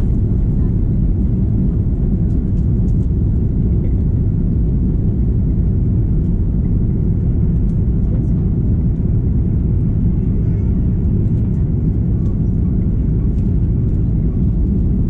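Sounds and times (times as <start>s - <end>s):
jet cabin low rumble: 0.0s - 15.0s.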